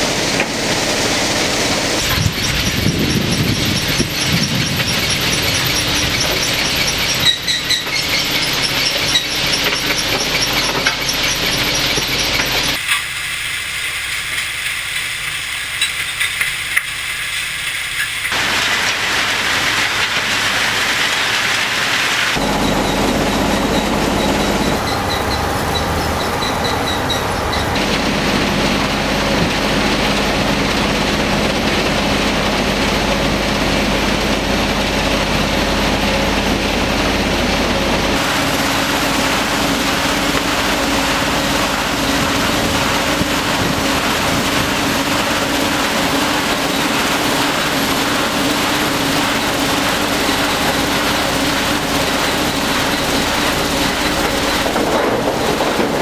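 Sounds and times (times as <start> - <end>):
gravel washing machinery running: 0.0 - 56.0.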